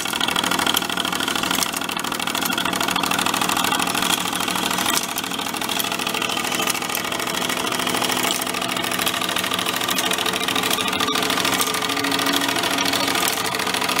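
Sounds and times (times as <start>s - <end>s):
machine running steadily: 0.0s - 14.0s.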